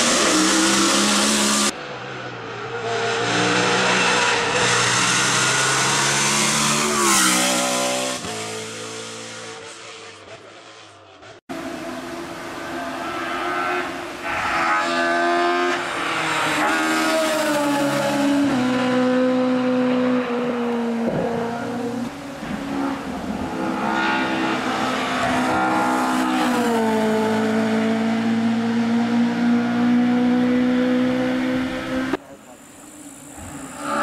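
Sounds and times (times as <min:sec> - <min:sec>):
race car engine revving: 0:02.6 - 0:32.2.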